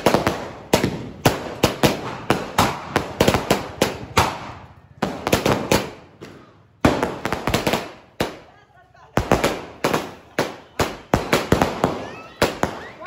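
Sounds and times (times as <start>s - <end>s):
firecrackers bursting: 0.0s - 13.0s.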